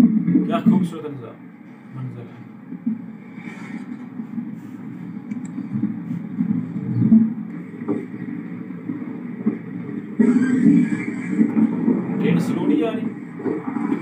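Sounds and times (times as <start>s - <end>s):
train rumbling on board: 1.6s - 14.0s.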